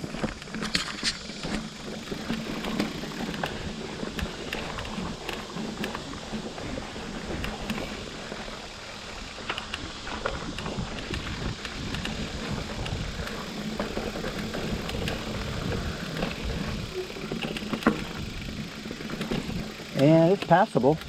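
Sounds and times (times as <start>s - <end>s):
bike tyre and drivetrain rumble: 0.0s - 21.0s.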